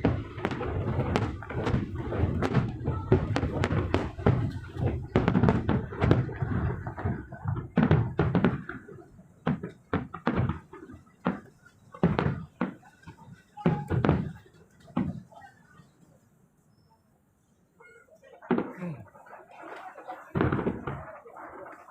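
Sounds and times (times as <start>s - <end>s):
fireworks bangs: 0.0s - 15.5s, 18.4s - 21.9s.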